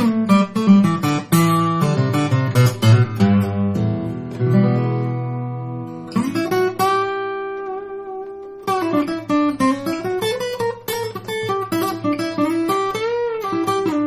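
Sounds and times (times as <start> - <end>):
acoustic guitar playing solo: 0.0 - 14.0.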